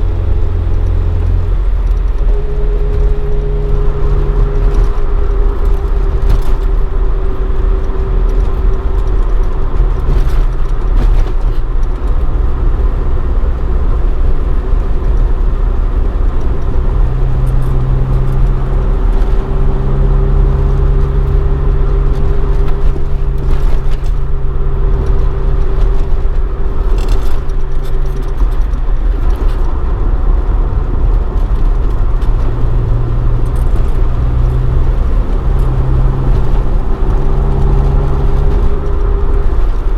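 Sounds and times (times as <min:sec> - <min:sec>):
car engine cruising: 0:00.0 - 0:39.9
road noise: 0:00.0 - 0:39.9.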